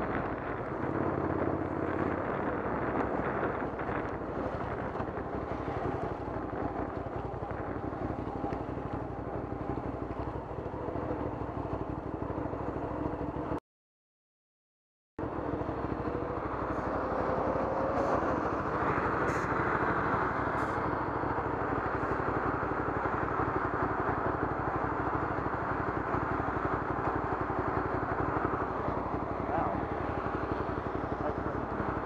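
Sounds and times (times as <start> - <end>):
motorcycle engine idling: 0.0 - 13.6, 15.2 - 32.0
surrounding traffic: 0.0 - 13.6, 15.2 - 32.0.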